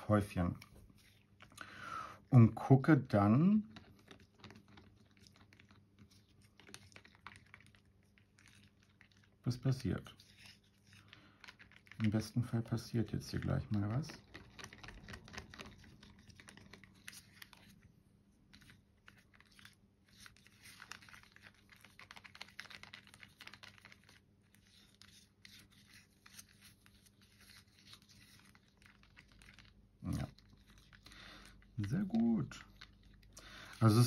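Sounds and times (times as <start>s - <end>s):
stick stirring thick paint: 0.0s - 34.0s.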